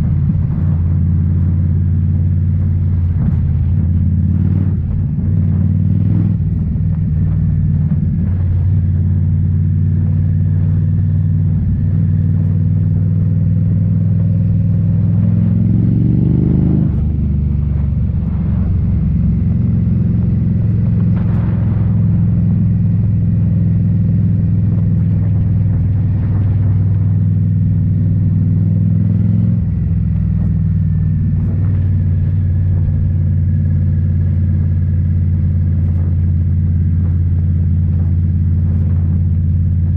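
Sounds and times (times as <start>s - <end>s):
motorcycle engine deep exhaust: 0.0s - 39.9s.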